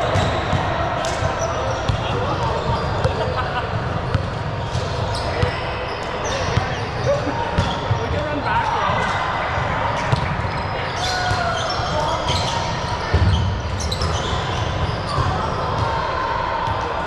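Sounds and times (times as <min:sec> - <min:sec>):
ball bouncing on court: 0:00.0 - 0:16.0
players' voices: 0:00.0 - 0:17.0.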